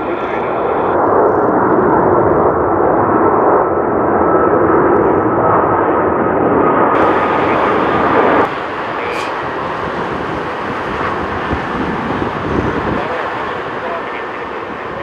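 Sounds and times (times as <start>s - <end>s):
jet engine roar with high whine: 0.0s - 15.0s.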